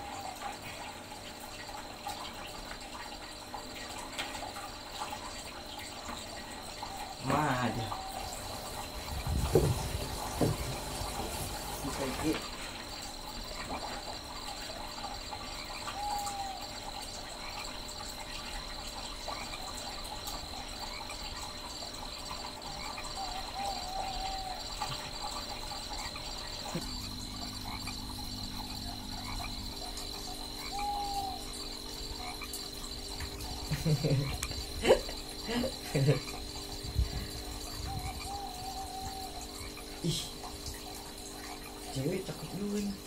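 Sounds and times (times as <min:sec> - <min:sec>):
crickets trilling: 0:00.0 - 0:43.0.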